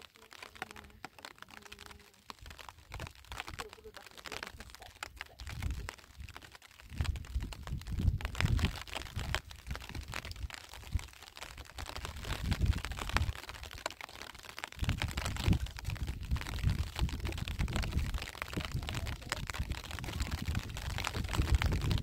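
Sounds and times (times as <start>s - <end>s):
footsteps on stony soil: 0.0s - 22.0s
wind buffeting microphone: 2.4s - 13.8s, 14.8s - 22.0s.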